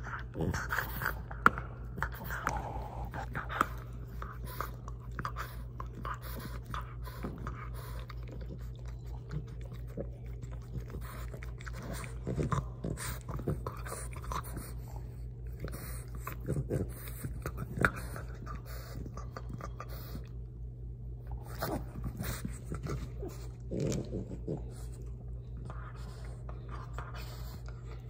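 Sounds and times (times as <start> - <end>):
dog gnawing rubber chew toy: 0.0 - 20.3, 21.3 - 28.0.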